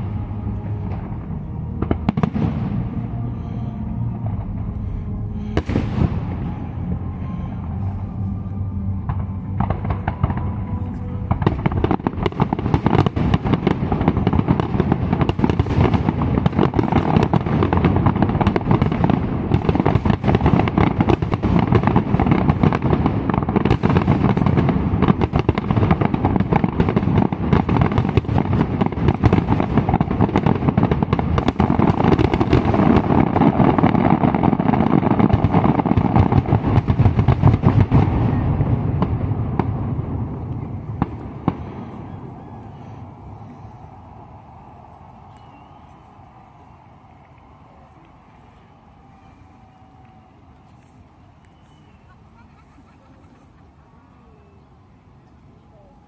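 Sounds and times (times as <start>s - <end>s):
fireworks bangs and crackle: 0.0s - 54.6s.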